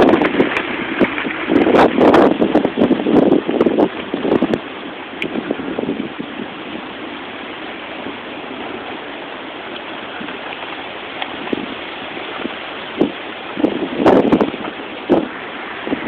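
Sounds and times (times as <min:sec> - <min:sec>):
heavy rain: 0:00.0 - 0:16.0
hurricane wind: 0:00.0 - 0:16.0.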